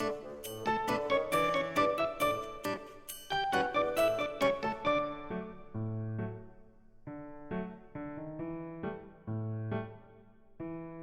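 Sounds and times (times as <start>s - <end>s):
keyboard music: 0.0s - 10.1s.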